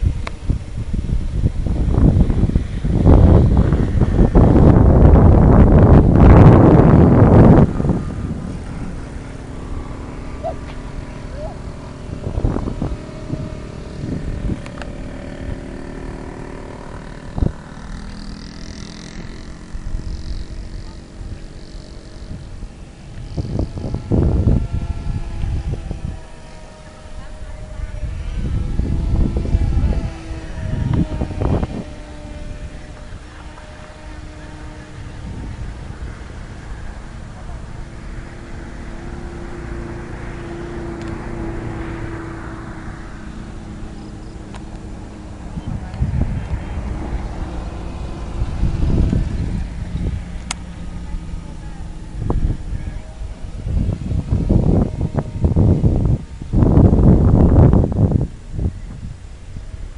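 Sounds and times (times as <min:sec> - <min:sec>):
aircraft droning overhead: 0:00.0 - 0:59.9
distant jet engine rushing: 0:00.0 - 0:59.9
wind buffeting microphone: 0:00.0 - 0:59.9.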